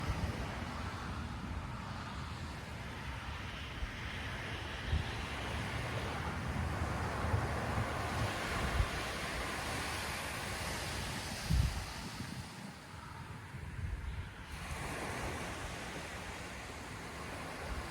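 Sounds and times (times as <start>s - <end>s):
ocean surf washing onto beach: 0.0s - 17.9s
wind buffeting microphone: 0.0s - 17.9s.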